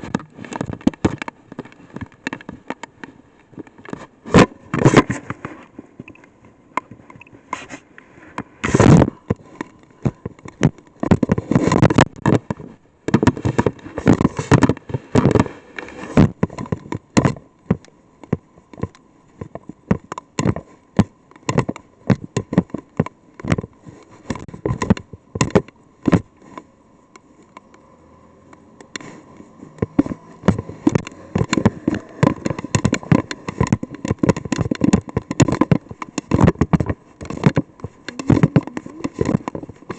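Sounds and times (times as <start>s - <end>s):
raindrops tapping on a probe: 0.0s - 7.6s, 8.4s - 26.4s, 29.7s - 39.9s.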